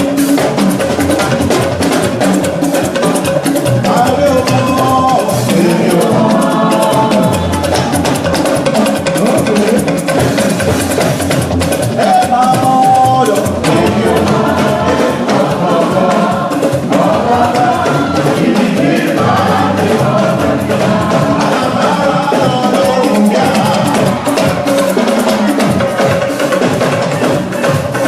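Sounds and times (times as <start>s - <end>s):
drums and hand percussion: 0.0s - 28.0s
group singing gospel song: 0.0s - 28.0s.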